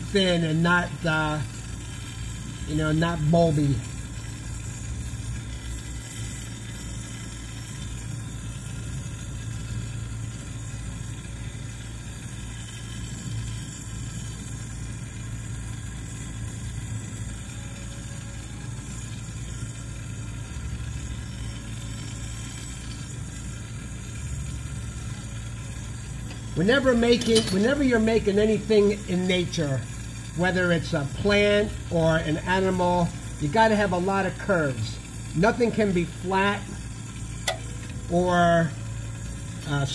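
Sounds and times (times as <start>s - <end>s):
torch burning with hiss: 0.0s - 39.9s.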